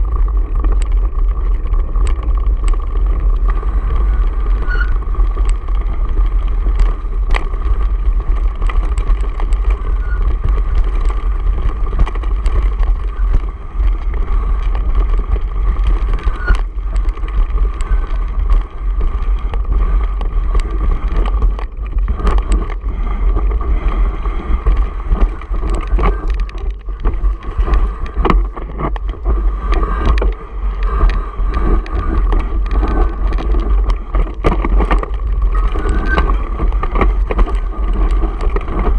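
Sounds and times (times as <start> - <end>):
bike rattling over stones: 0.0 - 38.9
sharp clicks of tyres on stones: 0.0 - 38.9
wind buffeting microphone: 0.0 - 38.9.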